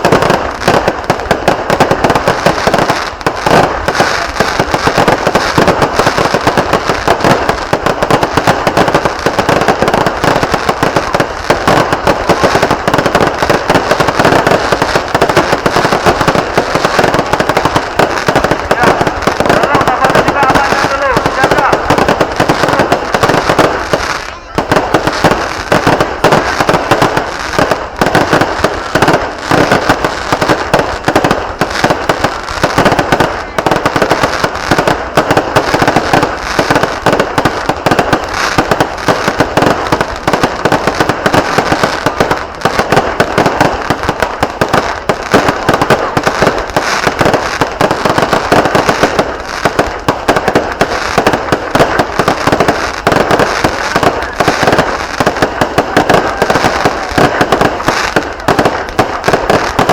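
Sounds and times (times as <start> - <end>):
fireworks cracks and bangs: 0.0 - 59.9.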